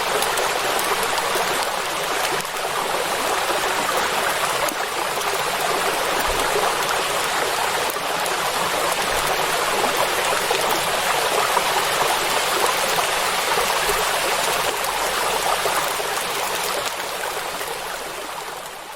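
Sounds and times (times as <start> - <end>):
heavy rain on lake surface: 0.0 - 18.9.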